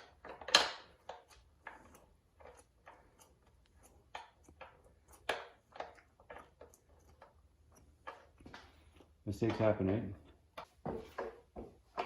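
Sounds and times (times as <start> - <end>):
small tools clicking and tapping: 0.0 - 11.4.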